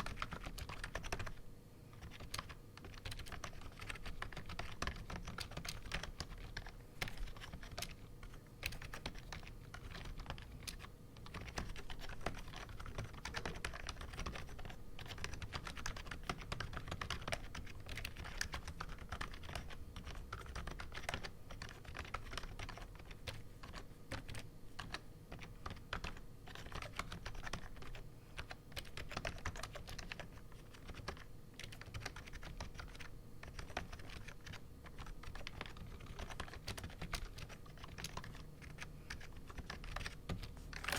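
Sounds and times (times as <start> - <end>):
keyboard typing clicks: 0.0 - 1.4, 2.0 - 40.9
faint steady hum: 0.0 - 40.9.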